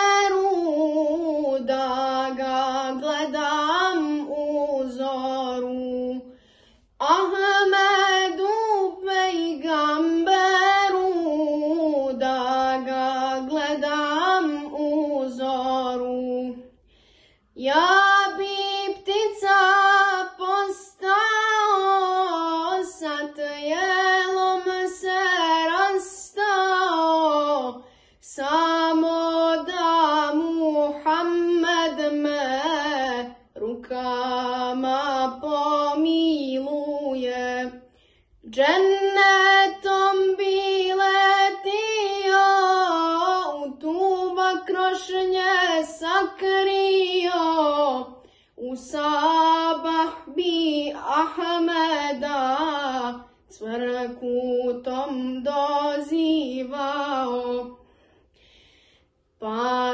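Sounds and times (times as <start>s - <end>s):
boy singing unaccompanied: 0.0s - 6.2s, 7.0s - 16.6s, 17.6s - 37.8s, 38.4s - 57.8s, 59.4s - 59.9s.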